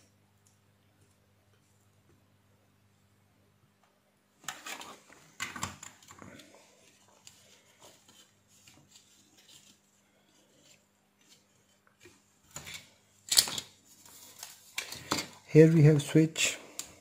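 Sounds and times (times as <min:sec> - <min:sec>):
faint low electrical hum: 0:00.0 - 0:17.0.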